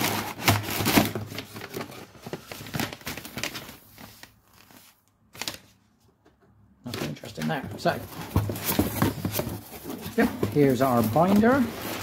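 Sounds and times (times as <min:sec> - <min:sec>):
cardboard and tape rustling: 0:00.0 - 0:05.8, 0:06.8 - 0:12.0.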